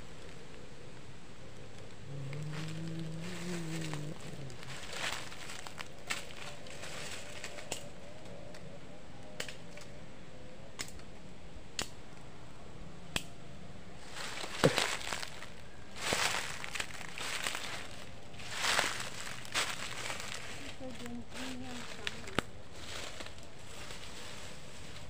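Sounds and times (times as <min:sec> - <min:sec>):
dry leaves and twigs crackling: 0:00.0 - 0:10.0, 0:10.7 - 0:11.1, 0:13.1 - 0:25.0.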